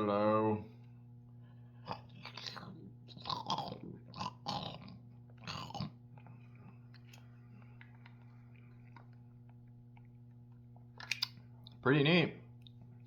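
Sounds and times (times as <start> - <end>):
steady low hum: 0.0 - 13.0
wet chewing sounds: 1.3 - 11.8.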